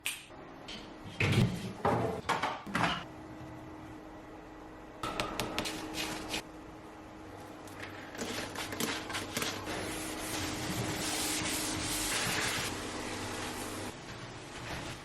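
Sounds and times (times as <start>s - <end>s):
refrigerator hum: 0.3s - 15.0s.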